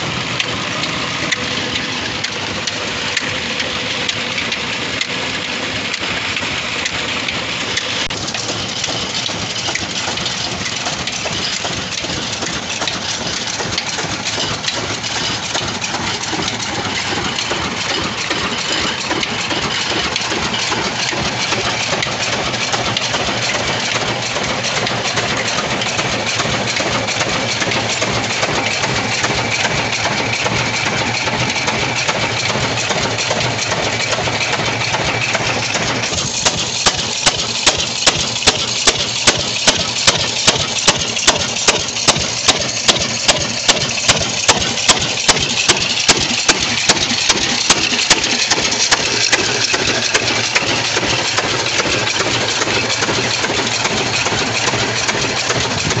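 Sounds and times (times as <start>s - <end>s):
diesel engine idling: 0.0s - 56.0s
sharp regular engine beat: 0.0s - 56.0s.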